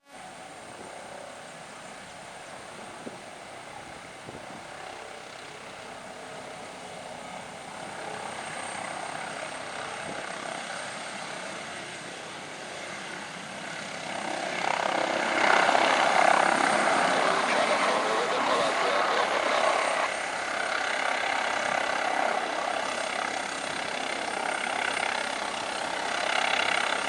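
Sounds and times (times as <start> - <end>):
faint high whine: 0.0 - 27.0
helicopter turbine and rotor noise: 0.0 - 27.0.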